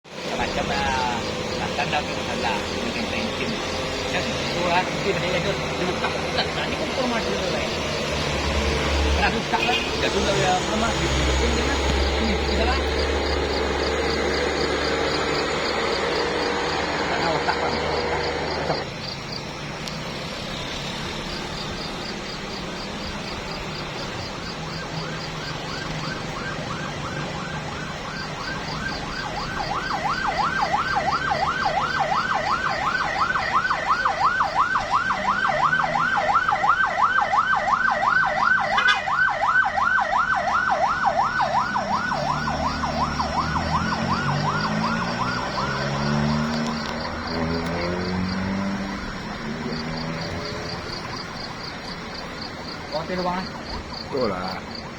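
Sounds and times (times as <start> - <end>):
vehicle road noise: 0.0 - 54.9
siren yelping: 0.1 - 19.6, 20.5 - 54.9.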